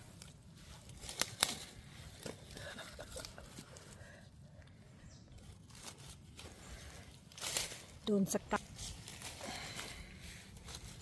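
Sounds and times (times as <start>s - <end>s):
dry leaves rustling: 0.0s - 4.3s, 5.4s - 11.0s.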